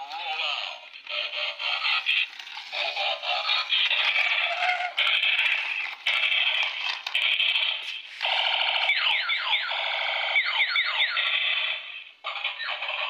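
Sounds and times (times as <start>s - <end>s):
tinny toy sound effects and music: 0.0s - 13.0s.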